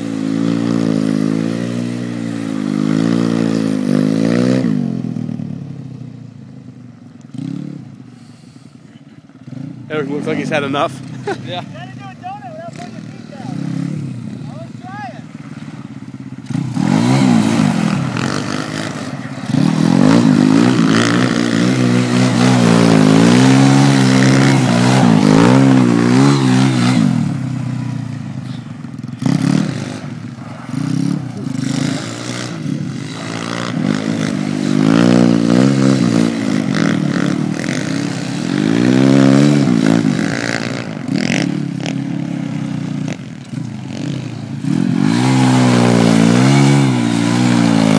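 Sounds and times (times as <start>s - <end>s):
pit bike engine revving: 0.0s - 5.9s, 7.3s - 47.9s.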